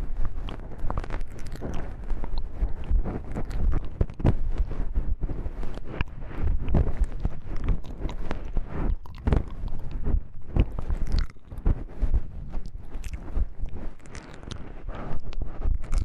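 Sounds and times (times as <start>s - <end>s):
crackling clicks: 0.0s - 4.9s, 5.6s - 16.0s.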